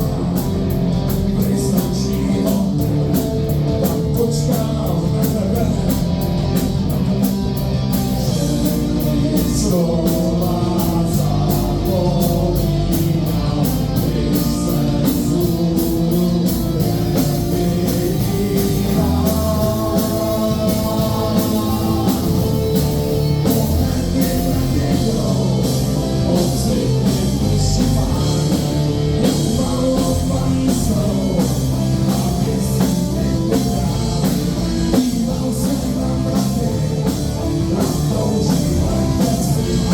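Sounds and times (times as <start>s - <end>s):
rock song with singing: 0.0s - 39.9s.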